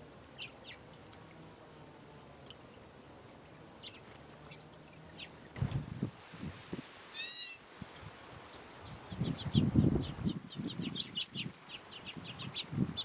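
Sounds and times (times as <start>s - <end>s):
small birds chirping: 0.2s - 5.8s, 7.1s - 13.0s.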